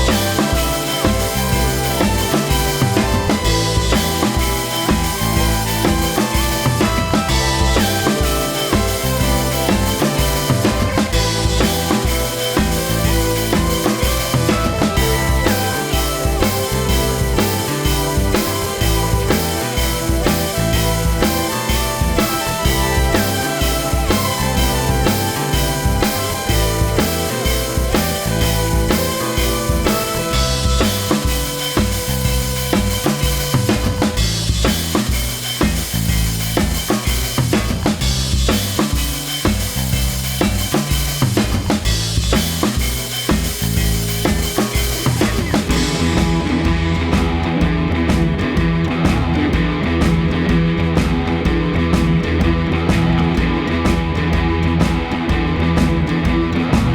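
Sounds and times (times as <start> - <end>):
bass and guitar notes: 0.0 - 56.9
drum kit steady beat: 0.0 - 56.9.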